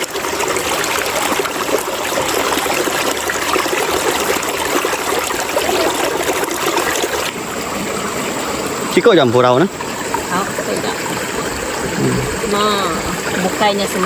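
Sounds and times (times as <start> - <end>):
river water splashing over rocks: 0.0 - 14.0.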